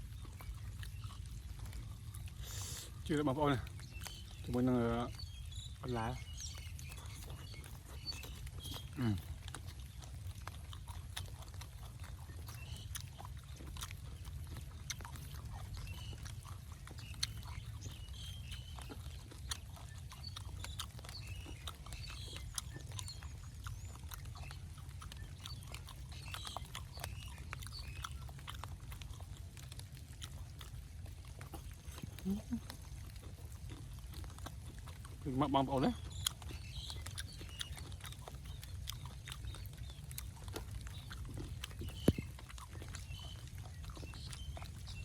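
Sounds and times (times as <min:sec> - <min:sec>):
chewing and mouth noises: 0:00.0 - 0:45.0.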